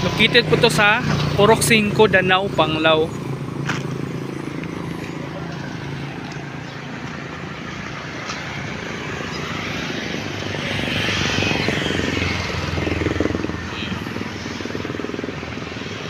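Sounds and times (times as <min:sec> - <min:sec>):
highway traffic rumble: 0:00.0 - 0:16.0
vehicle passing close: 0:00.0 - 0:16.0.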